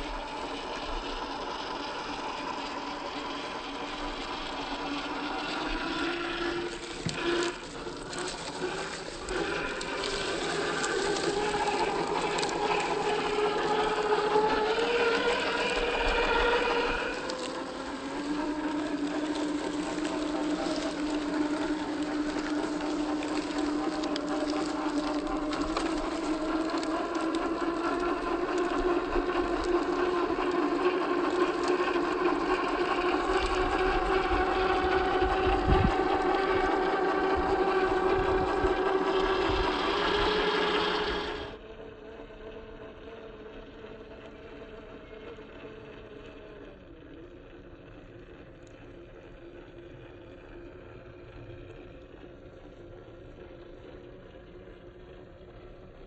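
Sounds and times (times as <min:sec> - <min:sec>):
electric motor whining: 0:00.0 - 0:47.5.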